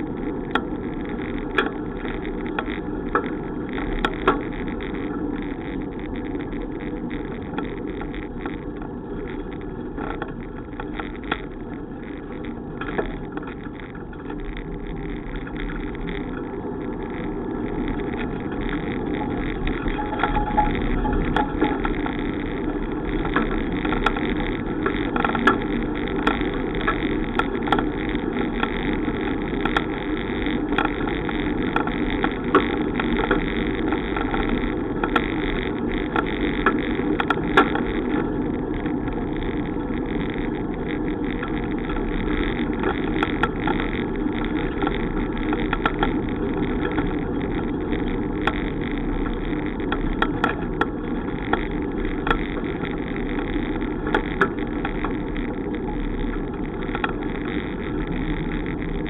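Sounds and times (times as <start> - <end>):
bicycle clicks and rattles: 0.0 - 59.0
bicycle road noise: 0.0 - 59.0.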